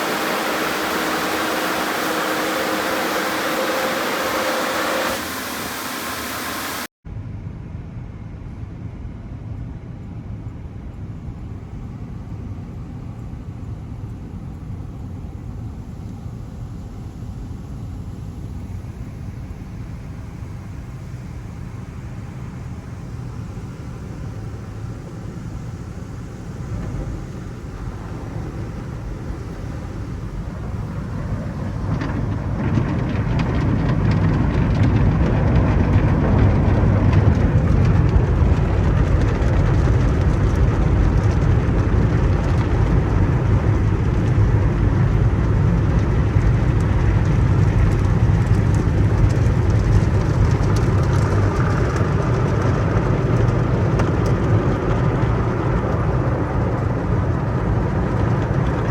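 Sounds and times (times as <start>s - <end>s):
car wash equipment rushing: 0.0s - 6.9s, 14.8s - 58.9s.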